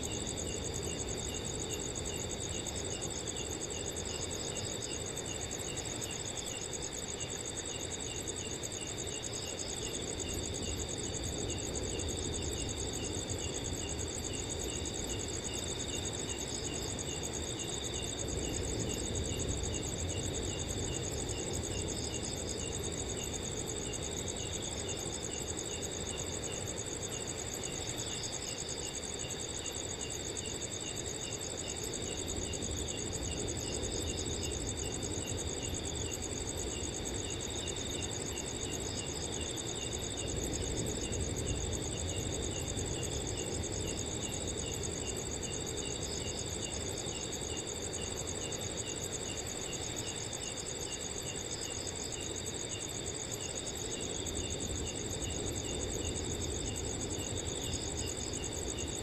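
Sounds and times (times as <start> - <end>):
low rush of wind: 0.0 - 50.3
crickets chirping: 0.0 - 59.0.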